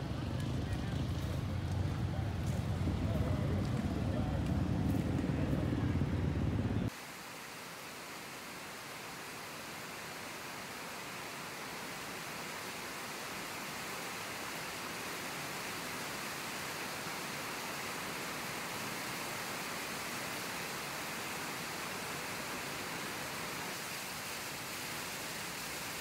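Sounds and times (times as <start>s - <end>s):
steady hiss: 1.5s - 26.0s.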